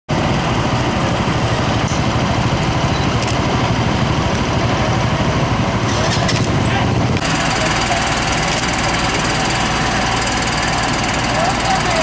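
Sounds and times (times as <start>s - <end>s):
diesel engines idling: 0.1s - 12.0s.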